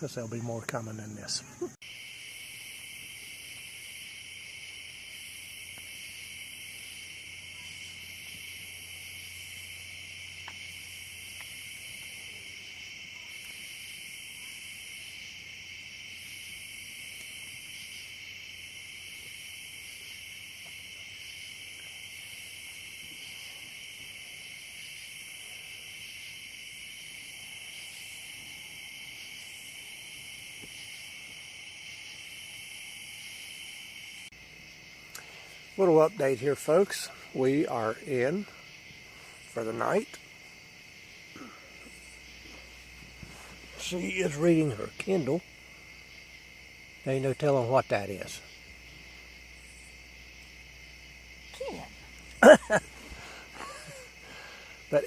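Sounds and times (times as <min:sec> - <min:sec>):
cricket trill: 0:00.0 - 0:55.0
higher-pitched insect chorus: 0:00.0 - 0:55.0.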